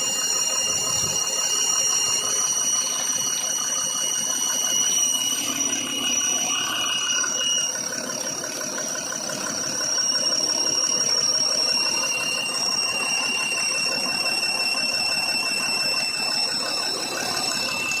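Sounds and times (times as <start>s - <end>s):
high-pitched exhaust leak tones: 0.0s - 18.0s
truck engine running: 0.0s - 18.0s.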